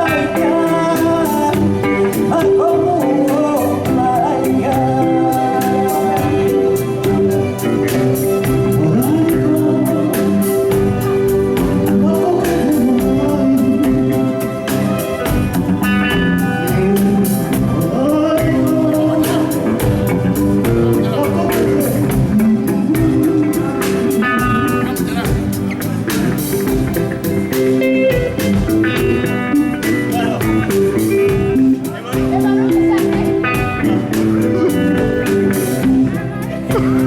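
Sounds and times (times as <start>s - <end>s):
person singing: 0.0s - 25.8s, 27.3s - 37.0s
live band playing: 0.0s - 37.0s.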